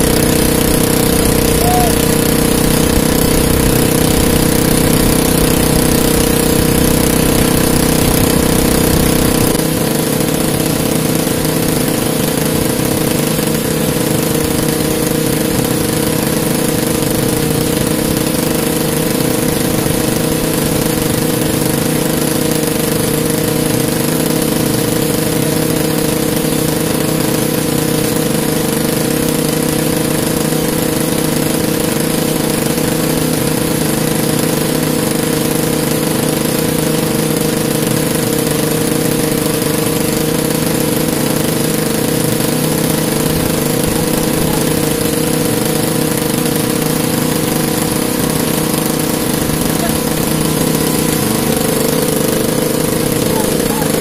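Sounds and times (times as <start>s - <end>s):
generator engine droning: 0.0s - 54.0s.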